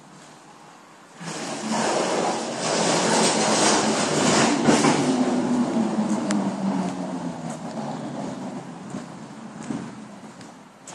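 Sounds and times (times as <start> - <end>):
truck driving past: 1.2 - 10.8.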